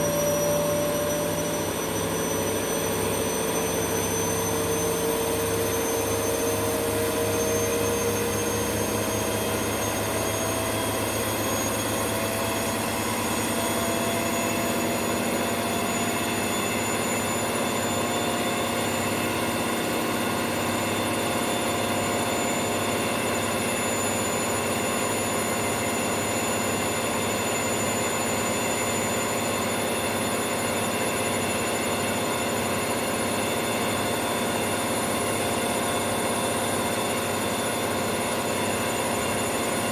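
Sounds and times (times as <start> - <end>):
washing machine spinning whine: 0.0 - 39.9.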